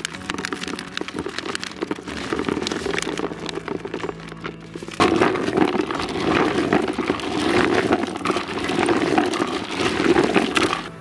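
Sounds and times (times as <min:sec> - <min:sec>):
bait rattling in plastic bucket: 0:00.0 - 0:11.0.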